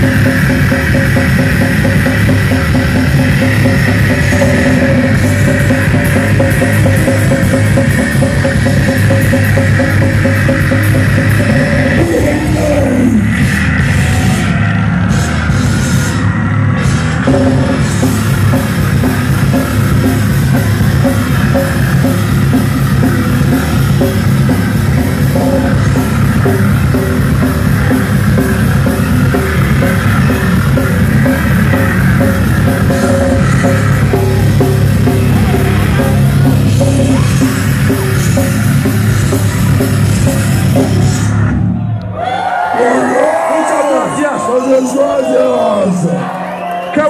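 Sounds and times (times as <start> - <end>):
fast pounding drums: 0.0 - 41.6
bass guitar: 0.0 - 47.0
distorted guitars: 0.0 - 47.0.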